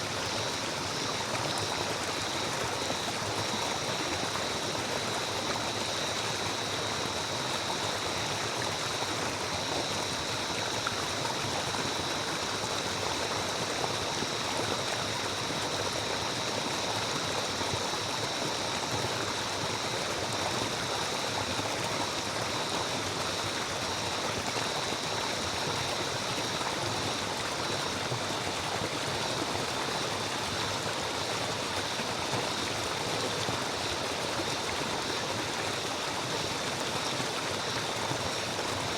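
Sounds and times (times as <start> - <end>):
stream of water running: 0.0 - 38.9.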